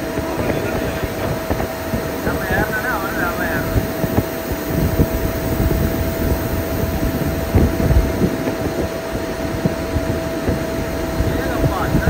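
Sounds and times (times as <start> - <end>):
bus engine and road rumble: 0.0 - 12.0
constant whine: 0.0 - 12.0.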